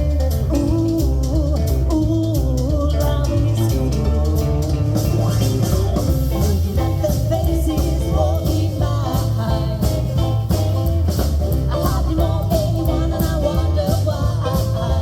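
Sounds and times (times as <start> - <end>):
person singing: 0.0 - 10.5, 11.6 - 15.0
bass: 0.0 - 15.0
drums: 0.0 - 15.0
guitar: 0.0 - 15.0.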